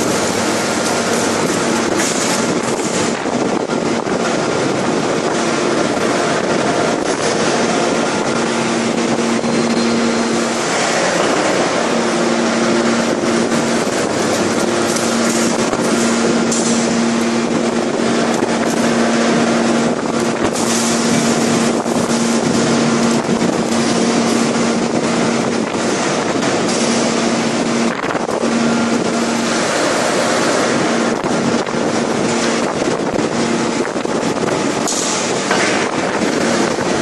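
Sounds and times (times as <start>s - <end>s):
droning hum: 0.0s - 37.0s
forging press machine noise: 0.0s - 37.0s.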